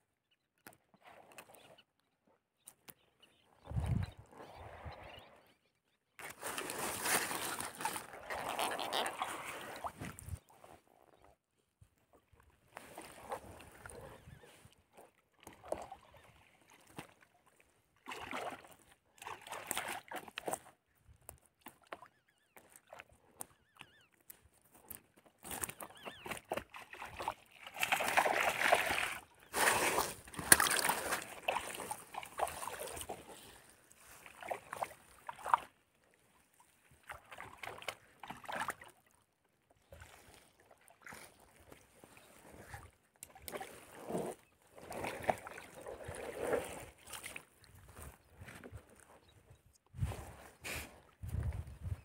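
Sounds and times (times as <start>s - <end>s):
water splashing and sloshing: 6.2s - 10.6s, 12.2s - 52.0s.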